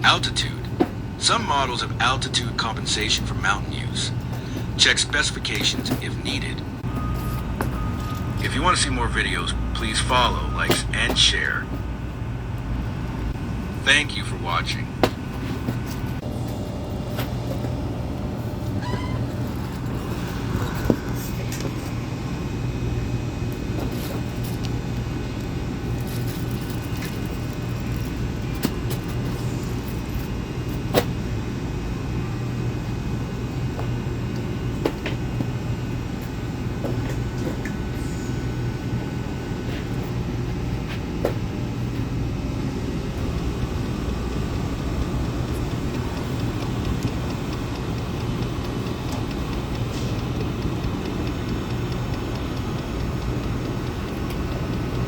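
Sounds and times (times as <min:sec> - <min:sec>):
diesel heater running: 0:00.0 - 0:55.0.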